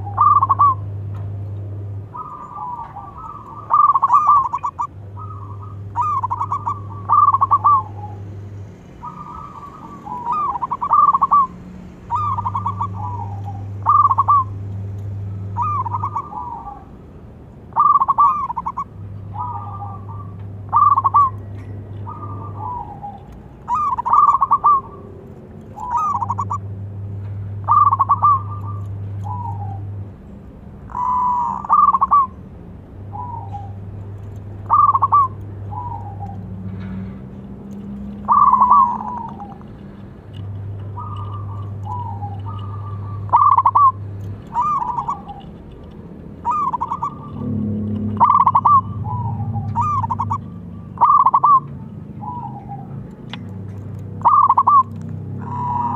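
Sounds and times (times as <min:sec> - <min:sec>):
dove cooing: 0:00.0 - 0:01.1, 0:01.8 - 0:08.4, 0:09.0 - 0:17.0, 0:17.7 - 0:26.7, 0:27.6 - 0:30.1, 0:30.8 - 0:55.9.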